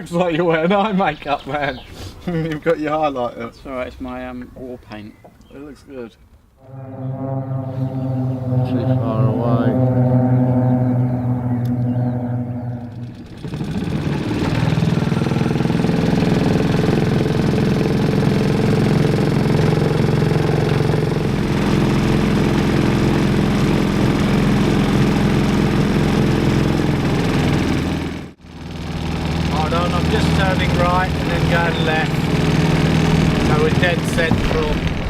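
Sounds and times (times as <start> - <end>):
engine running: 6.6 - 35.0.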